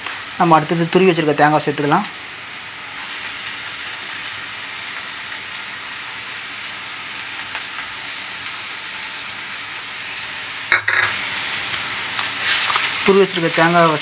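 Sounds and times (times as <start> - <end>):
vegetable pieces sizzling in oil: 0.0 - 14.0.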